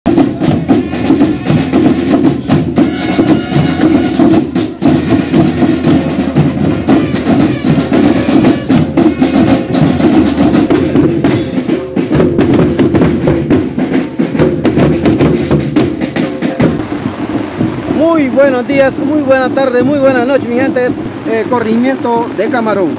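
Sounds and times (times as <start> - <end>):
drums beating: 0.0 - 22.9
marching band playing: 0.1 - 21.2.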